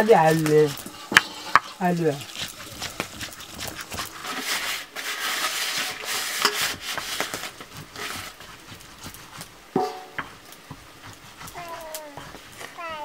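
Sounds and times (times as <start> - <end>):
stone scraping on stone: 0.0 - 12.7.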